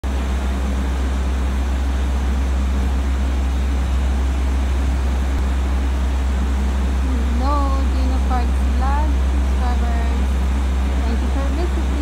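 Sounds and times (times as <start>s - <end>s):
train idling hum: 0.0s - 12.0s.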